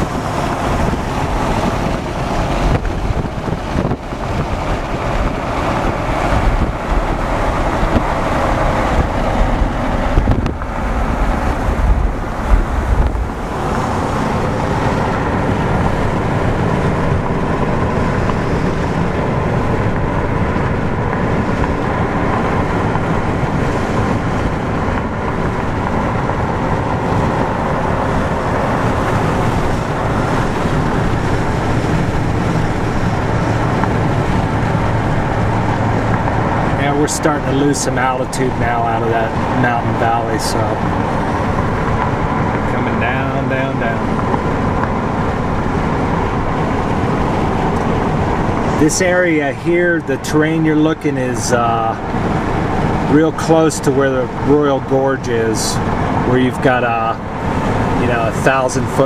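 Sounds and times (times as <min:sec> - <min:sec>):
car road and wind noise: 0:00.0 - 0:59.0
wind buffeting microphone: 0:00.0 - 0:59.0.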